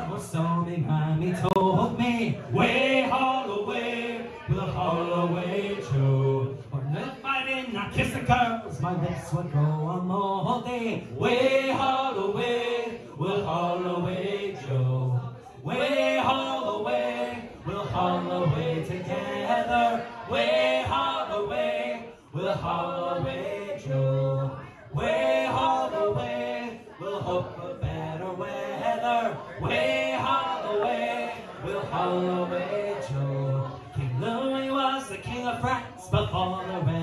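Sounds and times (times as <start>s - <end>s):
men singing in chorus: 0.0s - 7.1s, 9.5s - 37.0s.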